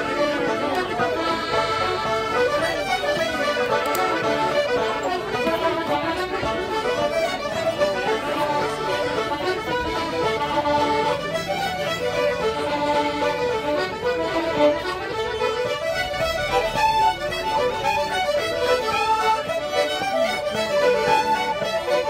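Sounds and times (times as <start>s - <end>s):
banjos: 0.0s - 22.0s
button accordion: 0.0s - 22.0s
fiddles: 0.0s - 22.0s.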